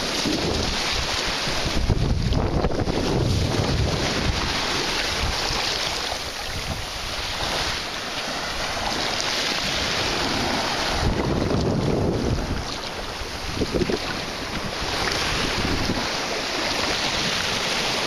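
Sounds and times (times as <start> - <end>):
wind buffeting microphone: 0.0 - 7.9, 9.6 - 18.0
small waves breaking on shore: 0.0 - 18.0.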